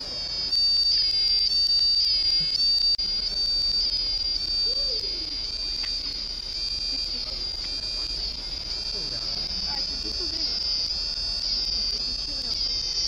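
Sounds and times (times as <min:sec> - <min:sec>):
shrill piezo buzzer tone: 0:00.0 - 0:13.0.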